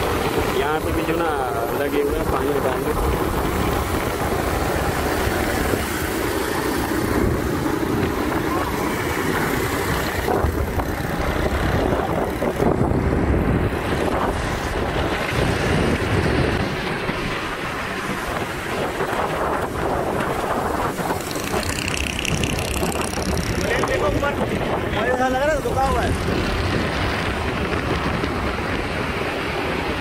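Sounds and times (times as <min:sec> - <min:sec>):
motorcycle engine: 0:00.0 - 0:30.0
road noise: 0:00.0 - 0:30.0
wind rushing over microphone: 0:00.0 - 0:30.0.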